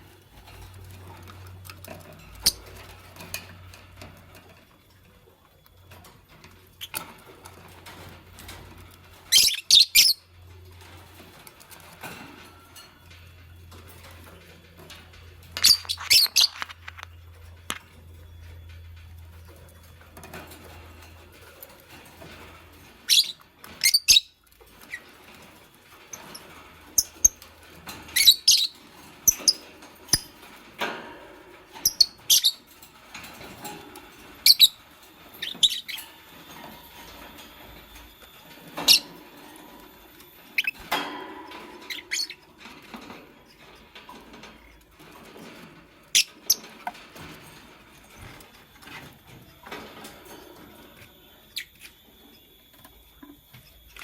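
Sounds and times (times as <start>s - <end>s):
lovebirds chirping and squeaking: 0.1s - 5.0s, 5.6s - 54.0s.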